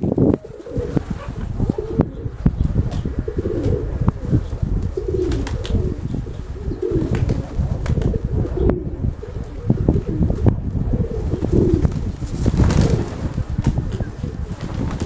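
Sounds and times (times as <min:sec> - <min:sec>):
pigeons cooing: 0:00.0 - 0:15.0
wind rumble on microphone: 0:00.0 - 0:15.0.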